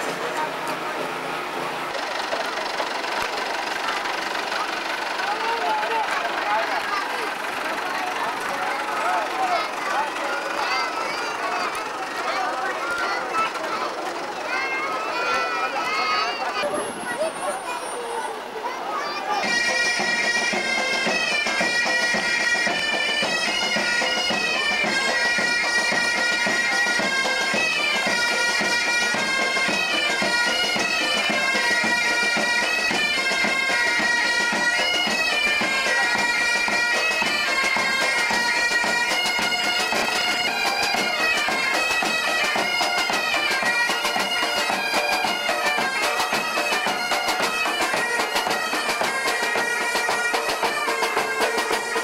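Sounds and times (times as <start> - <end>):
drums beating: 0.0 - 17.8, 18.4 - 52.0
bagpipes playing: 1.4 - 17.8, 19.0 - 52.0.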